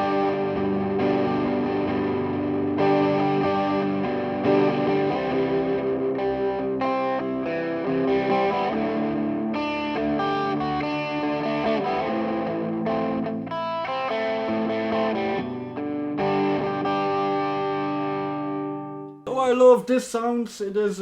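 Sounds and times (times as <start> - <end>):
overdriven electric guitar chords: 0.0 - 19.2.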